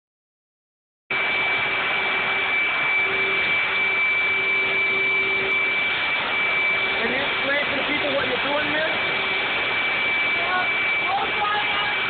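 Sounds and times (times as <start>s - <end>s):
blow dryer whining: 1.1s - 12.0s.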